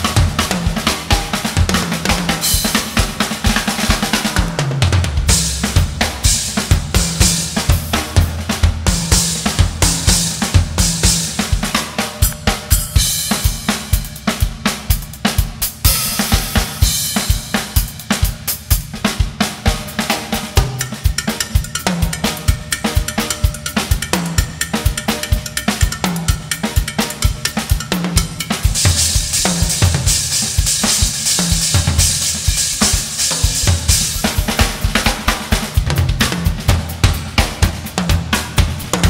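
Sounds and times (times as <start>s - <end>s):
drum kit groove: 0.0s - 39.0s.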